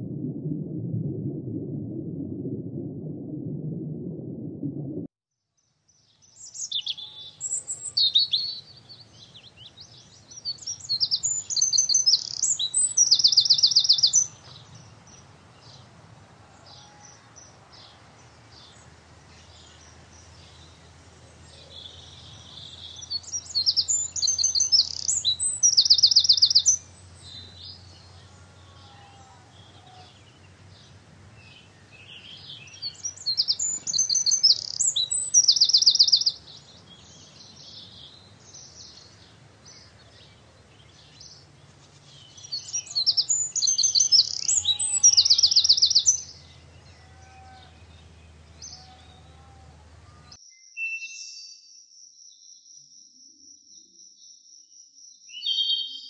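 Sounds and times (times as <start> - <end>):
songbird singing with trill: 5.9 - 15.9, 16.6 - 56.0.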